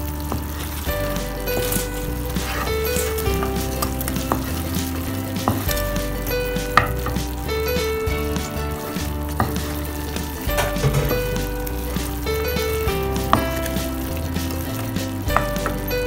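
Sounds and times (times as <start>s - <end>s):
background music with held notes: 0.0s - 16.0s
chicken wings sizzling in a pan: 0.0s - 16.0s
wooden spatula stirring: 0.0s - 16.0s.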